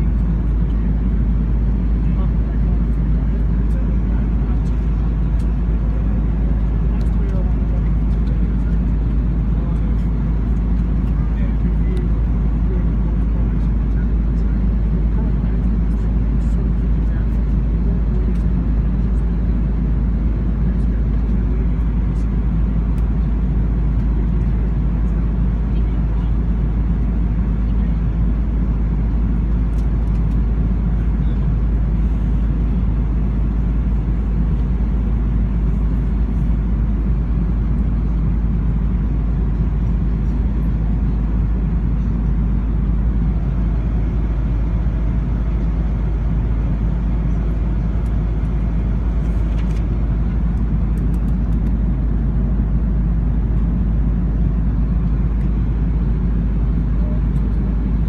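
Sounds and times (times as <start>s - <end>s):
aircraft cabin drone: 0.0s - 58.0s.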